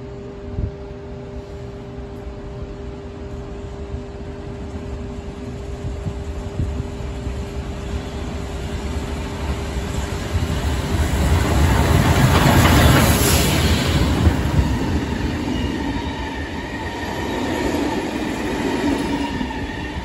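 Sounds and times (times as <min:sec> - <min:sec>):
train wheels rumbling on rails: 0:01.4 - 0:20.0.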